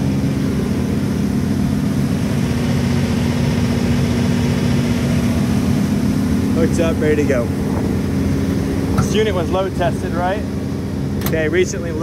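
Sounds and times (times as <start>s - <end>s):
diesel generator running: 0.0s - 12.0s.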